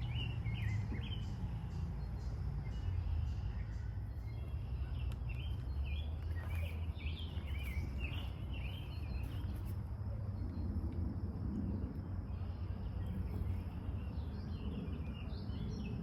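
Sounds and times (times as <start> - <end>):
songbird chirping: 0.0 - 10.9, 11.5 - 16.0
steady low rumble: 0.0 - 16.0.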